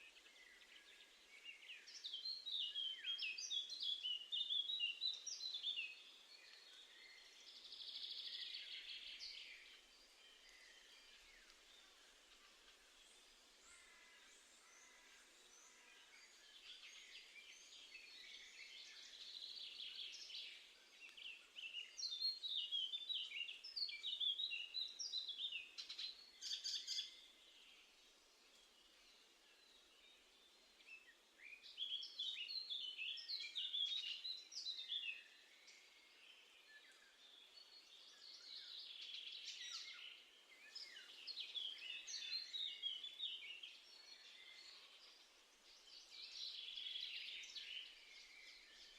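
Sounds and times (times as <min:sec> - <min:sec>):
faint background noise: 0:00.0 - 0:48.9
songbird singing: 0:00.0 - 0:48.9.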